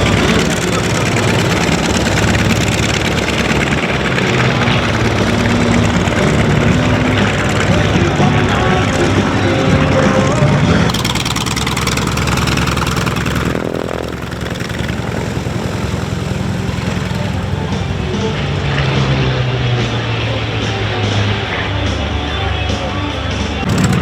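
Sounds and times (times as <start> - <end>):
propeller plane engine roaring: 0.0 - 24.0.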